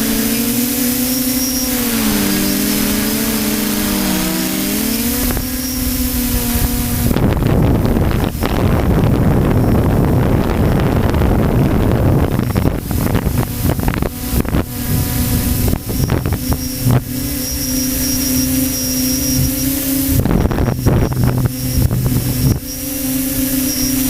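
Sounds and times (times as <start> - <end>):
model aircraft motor running: 0.0 - 24.0
wind buffeting microphone: 0.0 - 24.0.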